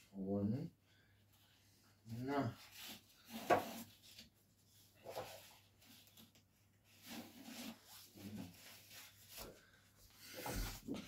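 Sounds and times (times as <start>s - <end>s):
faint rustling and handling: 0.9s - 11.0s.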